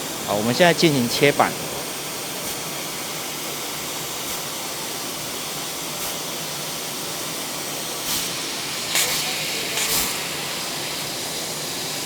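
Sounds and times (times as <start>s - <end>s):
laser cutter gas jet hiss: 0.0s - 12.0s.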